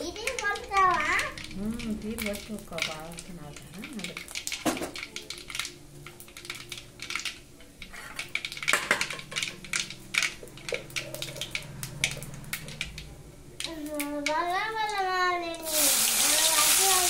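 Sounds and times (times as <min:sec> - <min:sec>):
seeds crackling in hot oil: 0:00.0 - 0:17.0.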